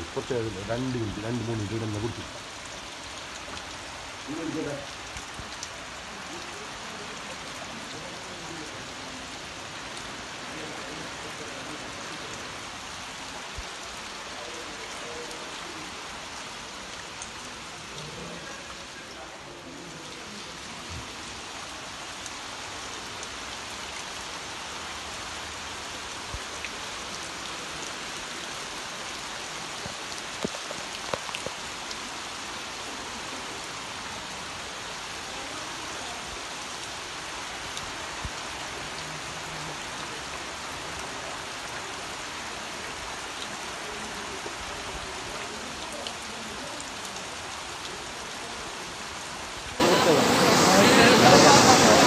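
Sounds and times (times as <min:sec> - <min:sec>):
rain falling on water: 0:00.0 - 0:52.0.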